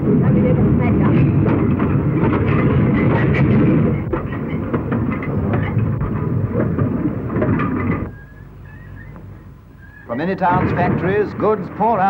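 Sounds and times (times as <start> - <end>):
train wagons rumbling: 0.0 - 12.0
wheel and coupling clanks: 0.9 - 12.0.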